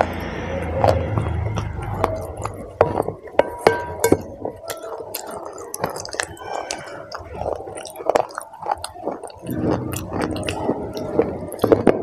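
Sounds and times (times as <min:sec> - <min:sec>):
chewing hard brittle sticks: 0:00.0 - 0:12.0.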